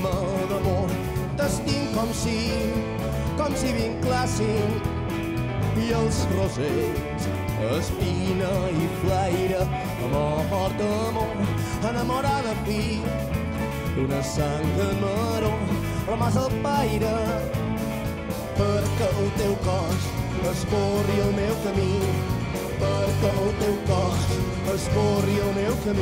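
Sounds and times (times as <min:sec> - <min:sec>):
rumba-rock band playing: 0:00.0 - 0:26.0
wavering melodic lead line: 0:00.0 - 0:26.0.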